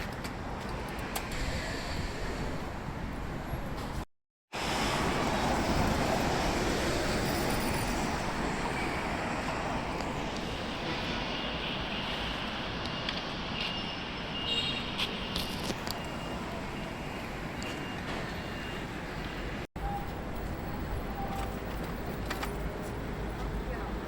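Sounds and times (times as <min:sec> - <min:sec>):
passing vehicles: 0:04.6 - 0:24.0.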